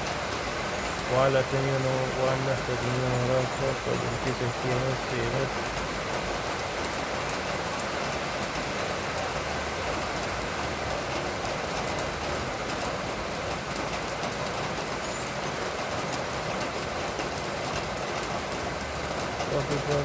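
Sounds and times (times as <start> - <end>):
raindrops ticking on a surface: 0.0 - 20.0
steady rain hiss: 0.0 - 20.0.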